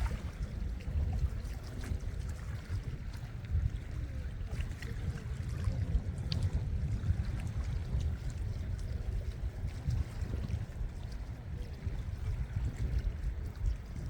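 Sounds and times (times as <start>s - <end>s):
sea water sloshing: 0.0s - 14.0s
wind buffeting microphone: 0.0s - 14.0s.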